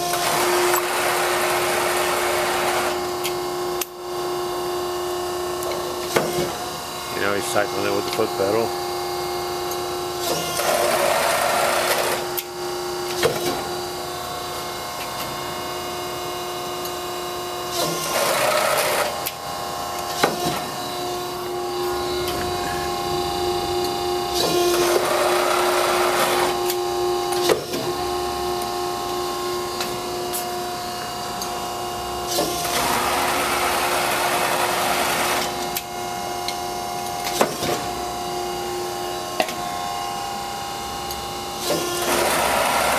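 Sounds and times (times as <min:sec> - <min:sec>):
press brake machine hum: 0:05.2 - 0:17.0, 0:17.6 - 0:42.9.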